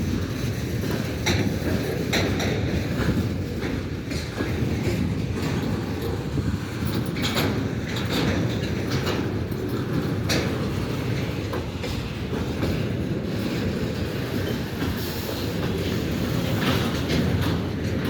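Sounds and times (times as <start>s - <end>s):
train wheels rumbling on rail: 0.0s - 18.0s
wheels clicking over rail joints: 0.0s - 18.0s.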